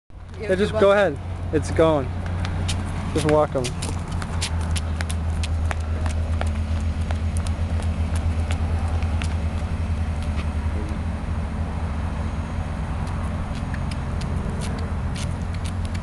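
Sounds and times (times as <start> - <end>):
vehicle engine idling: 0.2 - 16.0.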